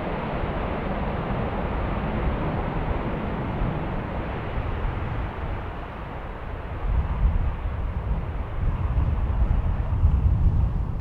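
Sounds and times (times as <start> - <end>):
jet engines rushing: 0.0 - 11.0
wind rumbling on microphone: 0.0 - 11.0.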